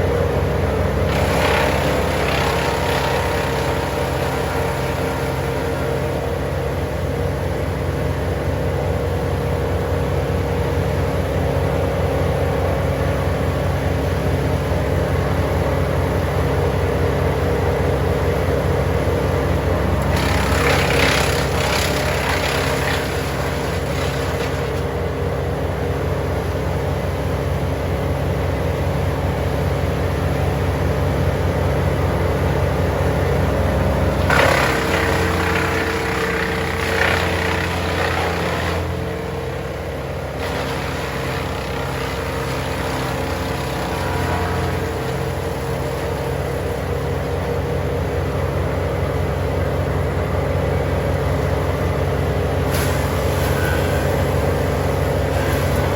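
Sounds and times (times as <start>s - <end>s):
wood chipper running: 0.0s - 55.9s.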